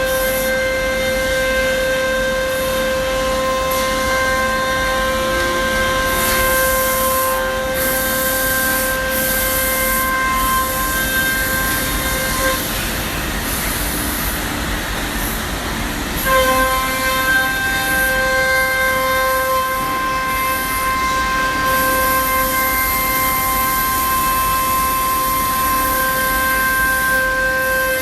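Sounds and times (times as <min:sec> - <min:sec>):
router spindle whining: 0:00.0 - 0:14.0, 0:15.6 - 0:28.0.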